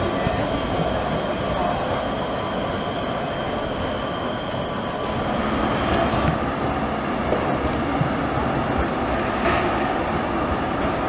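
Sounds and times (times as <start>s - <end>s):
high-pitched wheel squeal: 0.0s - 11.0s
tram wheels rumbling on rails: 0.0s - 11.0s.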